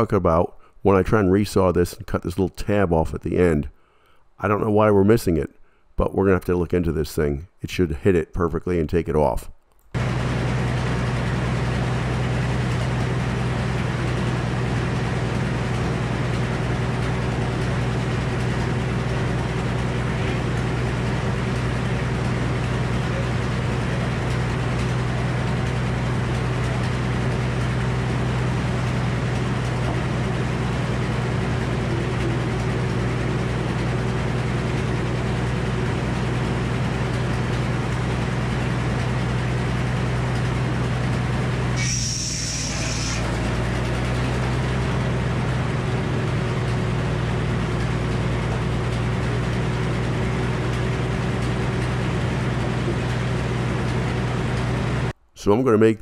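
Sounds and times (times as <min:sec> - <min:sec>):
sawmill saw humming: 0:10.0 - 0:55.5.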